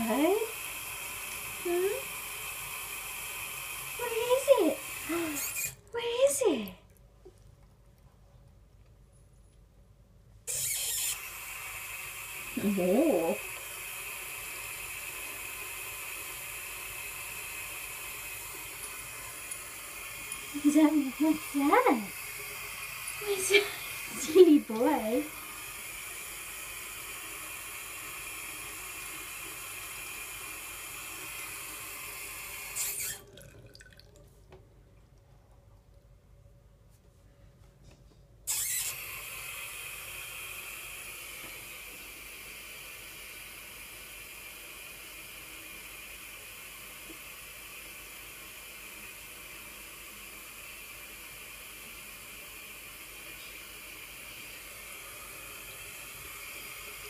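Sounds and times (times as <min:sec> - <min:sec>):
faucet water running into basin: 0:00.0 - 0:06.9, 0:10.5 - 0:34.3, 0:38.5 - 0:57.0.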